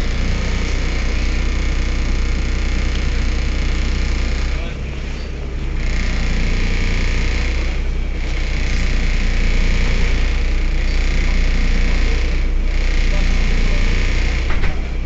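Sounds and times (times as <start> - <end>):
bus diesel engine drone: 0.0 - 15.0
high engine whine: 0.0 - 15.0.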